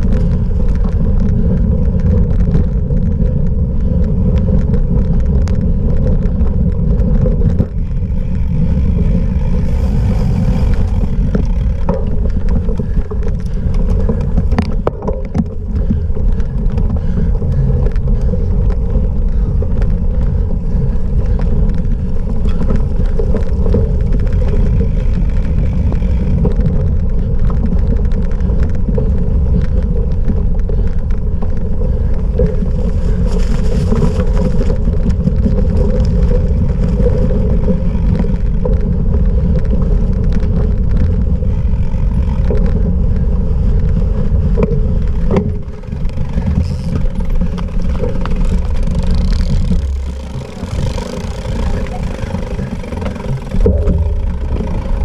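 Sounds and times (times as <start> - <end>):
bike tyres rolling on rough ground: 0.0 - 55.0
wind rumble on microphone: 0.0 - 55.0.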